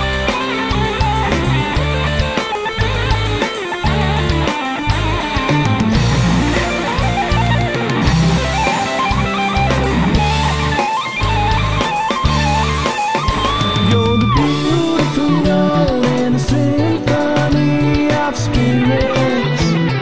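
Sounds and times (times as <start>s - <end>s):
bass guitar: 0.0s - 20.0s
drum kit: 0.0s - 20.0s
electric guitar lead melody: 0.0s - 20.0s.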